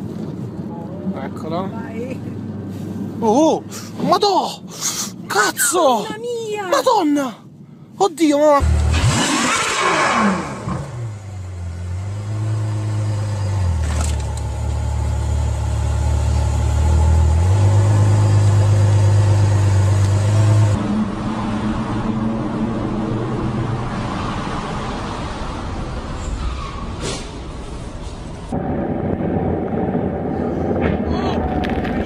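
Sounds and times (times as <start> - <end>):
traffic noise: 0.0 - 32.0.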